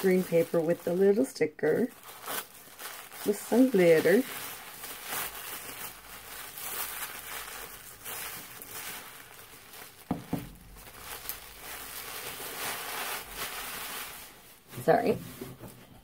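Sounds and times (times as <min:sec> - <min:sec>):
paper wrapping crinkling: 0:00.0 - 0:15.7.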